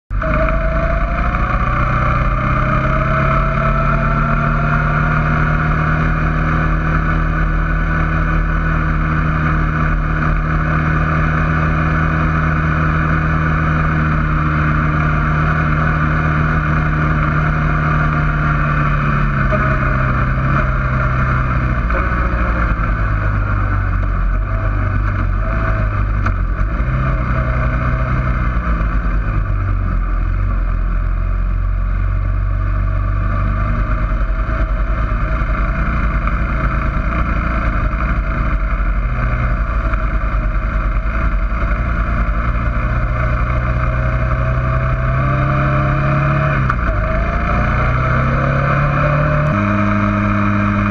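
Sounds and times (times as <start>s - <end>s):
atv engine running: 0.1s - 50.9s.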